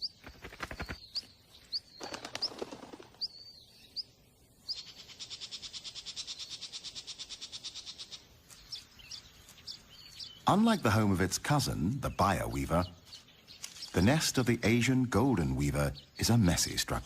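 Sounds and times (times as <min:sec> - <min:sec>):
songbird chirping: 0:00.0 - 0:17.0
songbird trill: 0:00.0 - 0:17.0.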